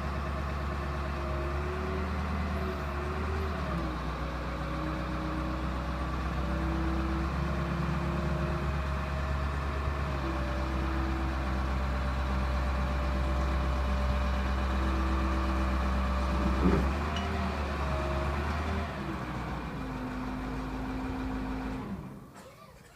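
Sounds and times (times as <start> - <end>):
forklift diesel engine running: 0.0 - 22.9.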